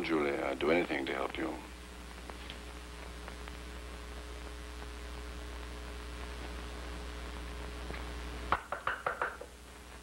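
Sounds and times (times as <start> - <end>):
film soundtrack hiss and hum: 0.0 - 10.0.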